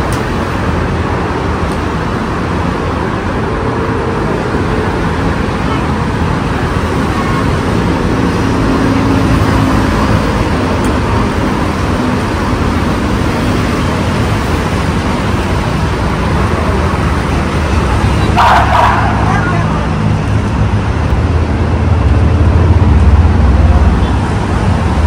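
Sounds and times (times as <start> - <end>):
road traffic rushing past: 0.0 - 25.0.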